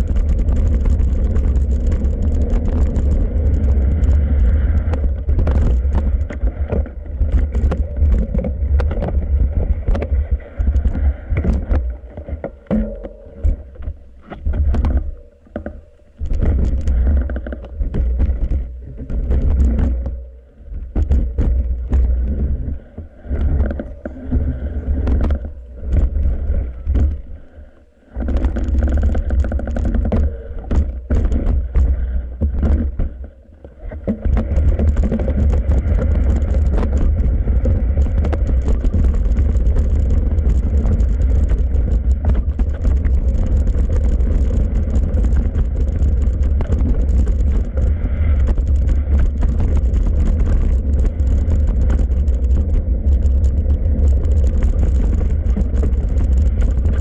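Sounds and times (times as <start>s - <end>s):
wind buffeting microphone: 0.0s - 15.2s, 16.2s - 27.4s, 28.2s - 57.0s
bike rattles and knocks: 0.0s - 27.4s, 28.1s - 57.0s
bike tyre noise: 0.0s - 57.0s.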